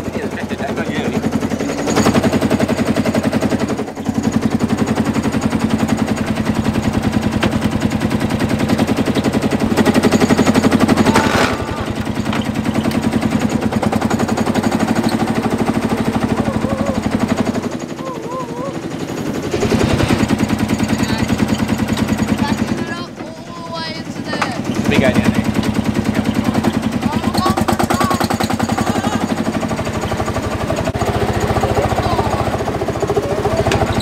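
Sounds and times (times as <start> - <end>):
old tractor engine chattering: 0.0 - 34.0.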